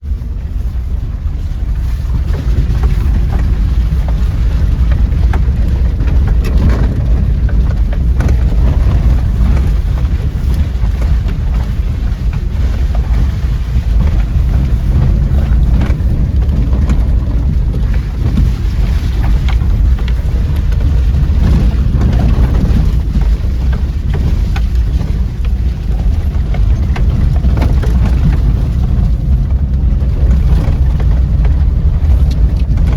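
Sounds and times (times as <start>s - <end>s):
off-road vehicle engine running: 0.0s - 32.9s
wind buffeting microphone: 0.0s - 32.9s
short knocks and clatters: 2.2s - 32.9s.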